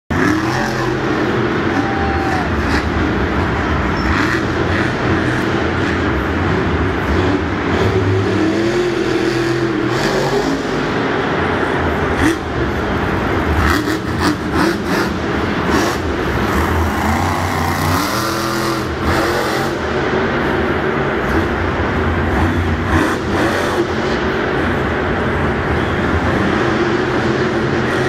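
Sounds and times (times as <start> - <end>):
monster truck engine revving: 0.1 - 28.0.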